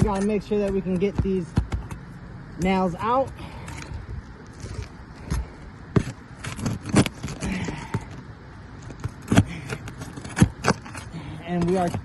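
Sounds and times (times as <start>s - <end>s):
hand tools scraping shingles: 0.0s - 2.0s, 2.6s - 8.2s, 8.8s - 12.0s.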